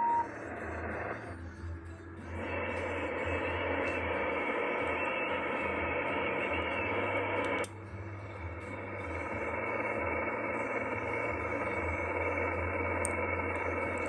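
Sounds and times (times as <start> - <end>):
low hum: 0.0 - 14.0
radio static hiss: 0.0 - 14.0.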